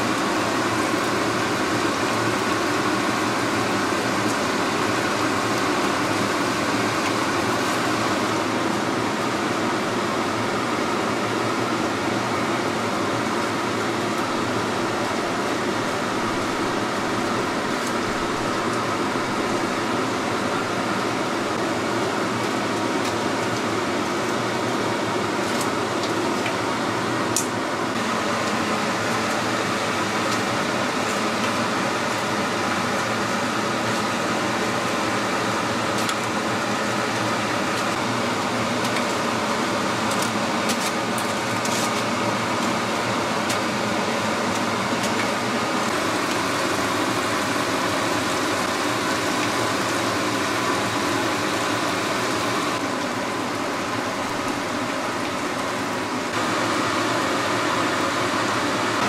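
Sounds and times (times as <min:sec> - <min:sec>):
hot oil sizzling: 0:00.0 - 0:59.0.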